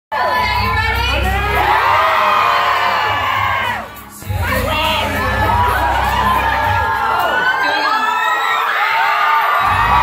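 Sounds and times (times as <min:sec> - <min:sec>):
crowd screaming and cheering: 0:00.1 - 0:10.0.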